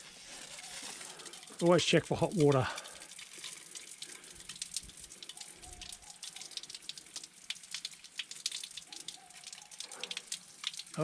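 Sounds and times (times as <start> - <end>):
water spattering onto floor: 0.0 - 11.0.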